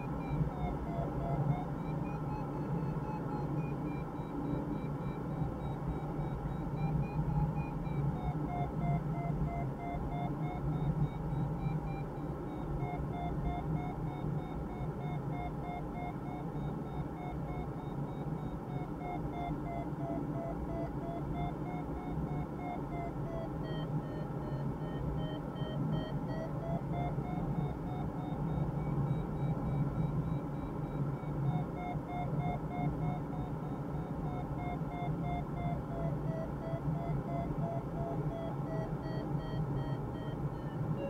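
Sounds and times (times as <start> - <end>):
short electronic beeps: 0.0 - 41.0.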